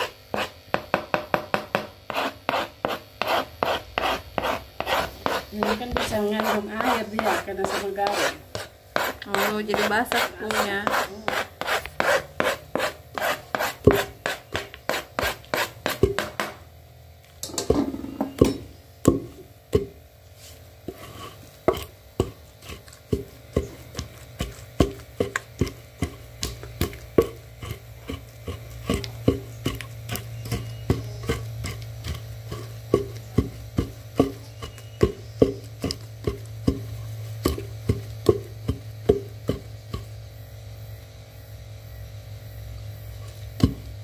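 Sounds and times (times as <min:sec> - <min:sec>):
wooden pestle pounding in mortar: 0:00.0 - 0:16.6, 0:17.9 - 0:20.0, 0:21.6 - 0:40.4, 0:43.5 - 0:44.0.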